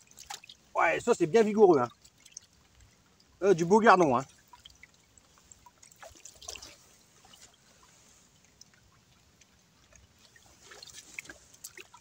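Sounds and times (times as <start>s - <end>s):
small ticks and splashes: 0.0s - 12.0s
water dripping and trickling: 0.0s - 12.0s.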